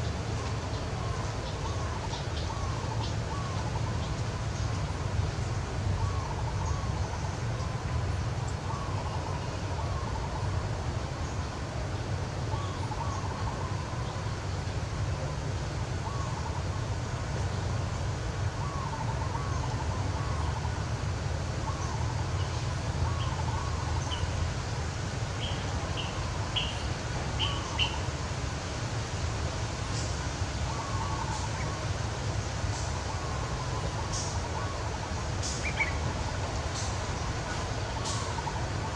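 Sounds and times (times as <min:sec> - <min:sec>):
birds calling: 0:00.0 - 0:28.8, 0:29.4 - 0:38.9.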